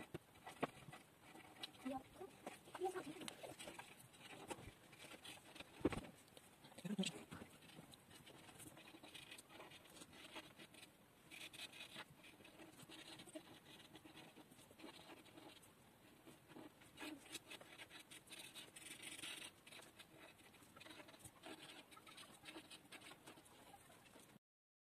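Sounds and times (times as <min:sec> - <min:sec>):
marker scratching on paper: 0:00.0 - 0:06.1, 0:06.9 - 0:24.3.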